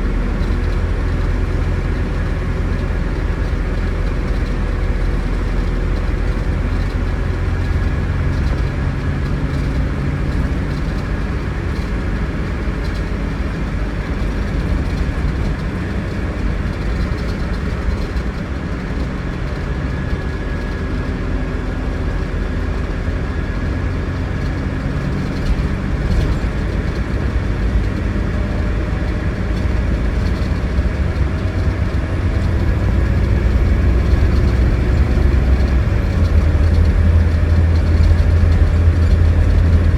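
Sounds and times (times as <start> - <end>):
diesel coach engine running: 0.0 - 39.9
road noise: 0.0 - 39.9.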